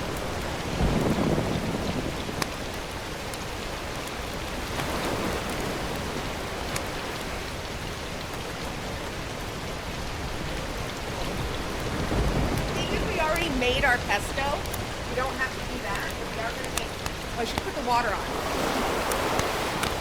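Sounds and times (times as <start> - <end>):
steady rain hiss: 0.0 - 20.0
ticks of single raindrops: 0.0 - 20.0.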